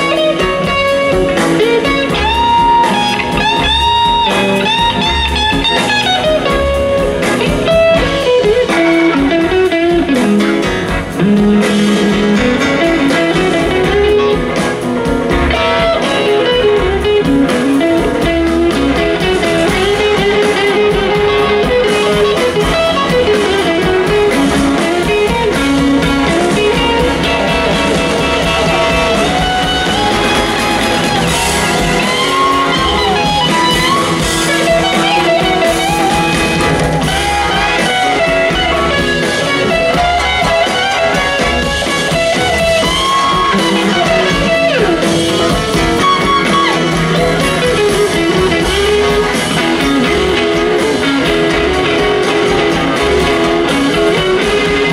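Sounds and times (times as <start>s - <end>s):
bass: 0.0s - 54.9s
drums: 0.0s - 54.9s
electric guitar lead: 0.0s - 54.9s.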